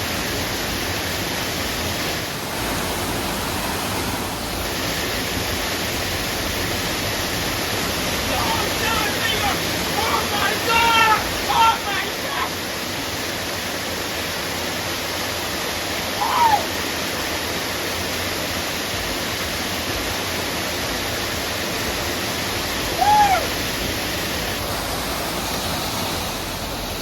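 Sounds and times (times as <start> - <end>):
waterfall pouring: 0.0 - 27.0.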